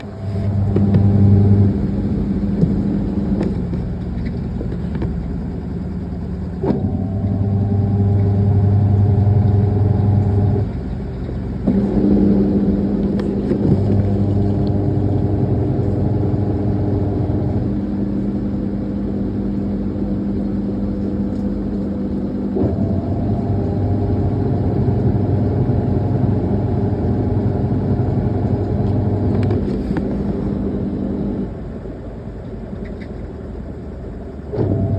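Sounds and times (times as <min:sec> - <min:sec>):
washing machine motor humming: 0:00.0 - 0:34.9.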